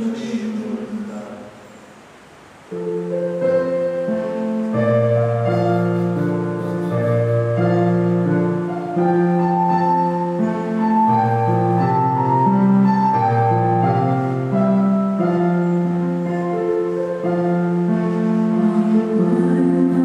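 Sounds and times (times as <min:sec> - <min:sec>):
slow instrumental music: 0:02.7 - 0:20.0.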